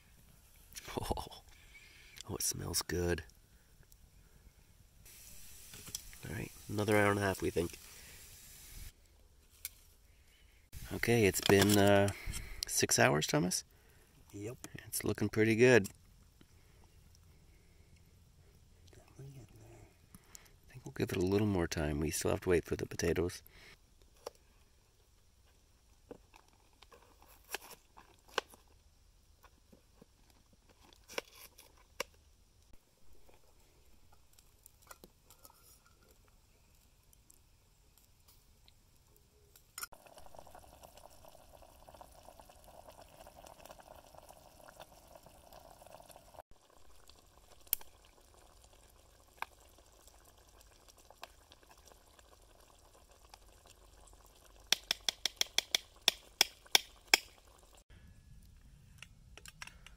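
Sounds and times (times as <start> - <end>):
water boiling with steady hiss: 0.0 - 59.7.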